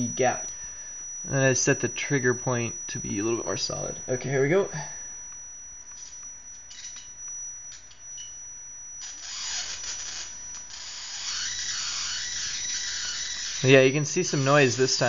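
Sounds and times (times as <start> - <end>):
electric arc crackling: 0.0 - 15.0
high whine: 0.0 - 15.0.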